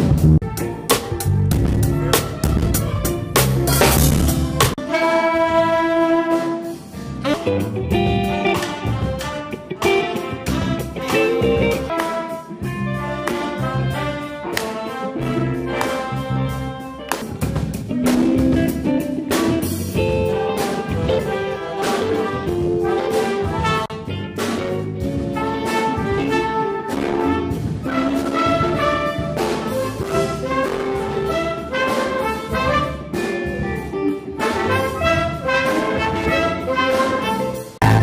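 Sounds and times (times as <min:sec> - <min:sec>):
electric bass guitar: 0:00.0 - 0:04.8, 0:06.9 - 0:12.0, 0:12.6 - 0:38.0
saxophone and wind section: 0:00.0 - 0:17.4, 0:18.0 - 0:38.0
drum kit: 0:00.0 - 0:38.0.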